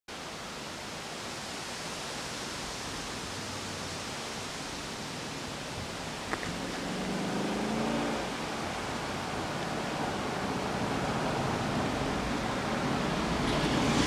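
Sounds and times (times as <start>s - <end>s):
wind rushing through trees: 0.1s - 14.0s.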